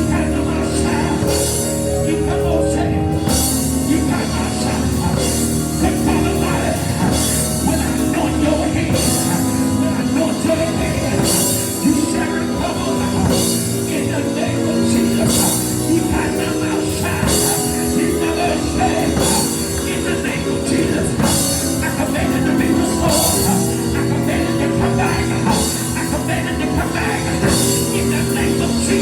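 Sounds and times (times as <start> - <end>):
congregation shouting and singing: 0.0 - 29.0
drums and cymbals beat: 0.0 - 29.0
organ chords: 0.0 - 29.0.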